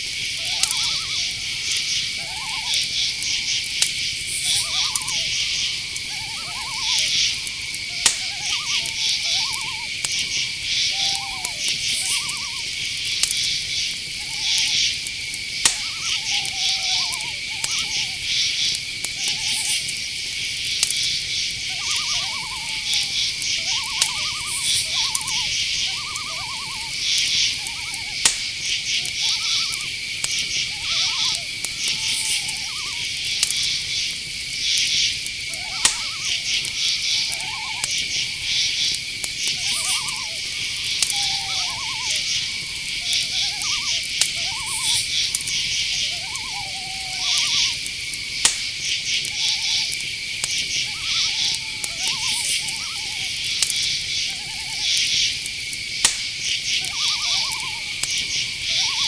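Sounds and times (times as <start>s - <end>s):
crickets chirping: 0.0s - 59.0s
faint sharp clicks: 0.0s - 59.0s
high insect trill: 0.0s - 59.0s
pulsed owl calls: 0.0s - 59.0s.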